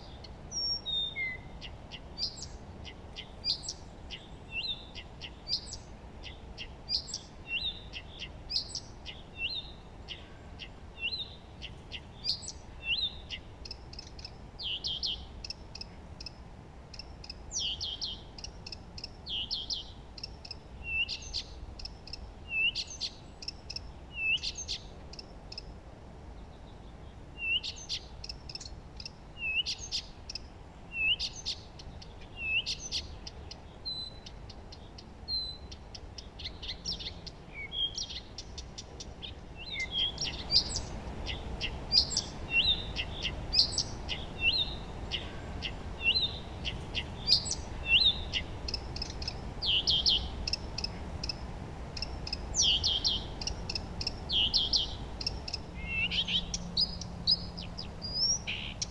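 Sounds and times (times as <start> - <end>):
chorus of birds: 0.0 - 58.9
steady low hiss: 0.0 - 58.9.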